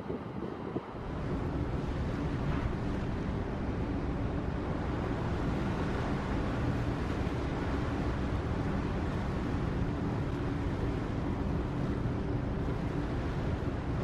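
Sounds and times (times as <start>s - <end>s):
low machinery hum: 0.0s - 14.0s
wind rumble on microphone: 0.0s - 14.0s.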